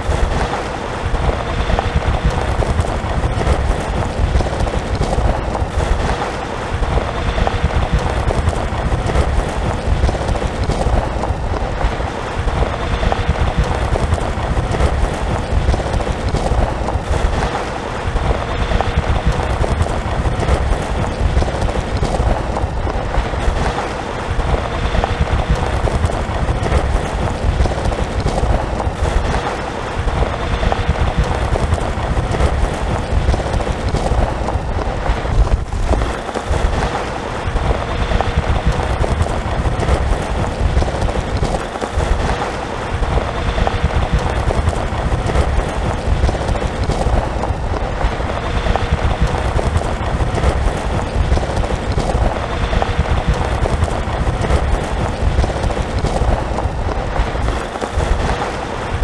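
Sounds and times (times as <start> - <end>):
road rumble: 0.0 - 59.0
stones clattering under tyres: 0.0 - 59.0.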